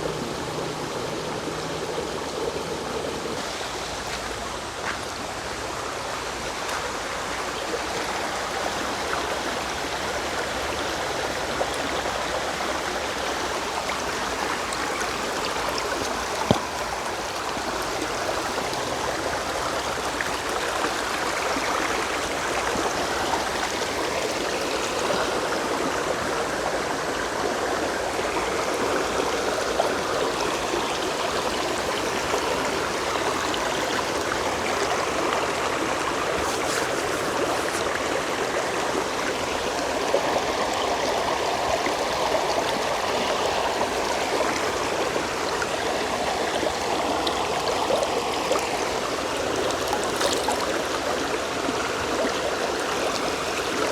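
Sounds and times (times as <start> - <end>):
creek water flowing over rocks: 0.0 - 53.9.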